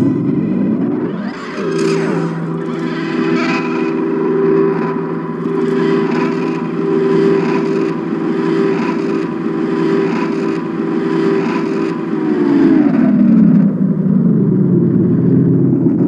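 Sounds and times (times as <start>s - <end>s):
electric guitar chords strummed: 0.0s - 16.0s.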